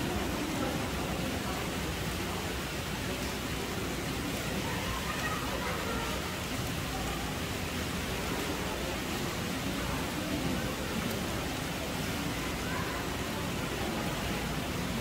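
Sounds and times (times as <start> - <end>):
faint murmur of voices: 0.0 - 15.0.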